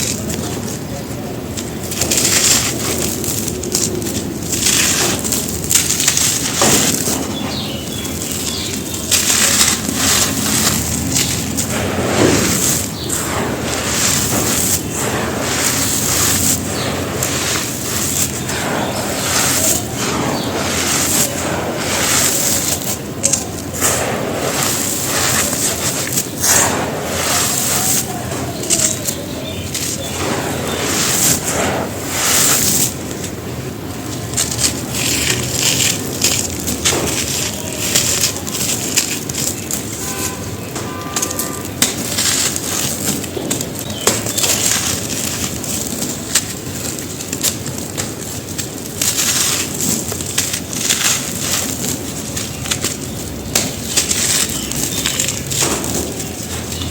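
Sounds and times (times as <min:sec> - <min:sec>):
dry dirt crunching: 0:00.0 - 0:56.9.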